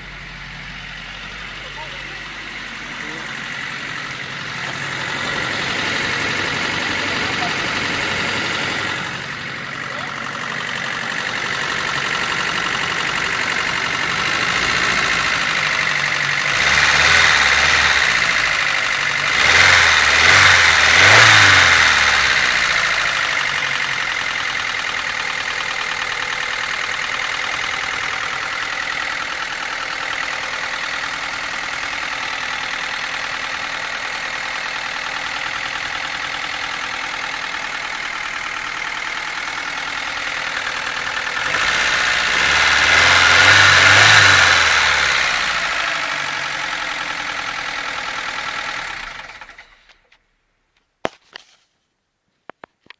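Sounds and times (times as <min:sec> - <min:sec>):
car engine idling and revving: 0:00.0 - 0:51.5.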